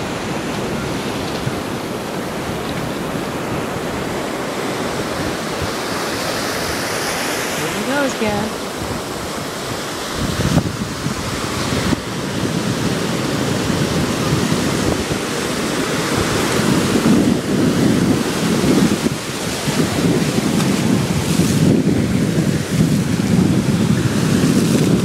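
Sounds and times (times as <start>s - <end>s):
ocean surf breaking: 0.0s - 25.0s
water washing through shallows: 0.0s - 25.0s
wind on microphone: 0.0s - 25.0s.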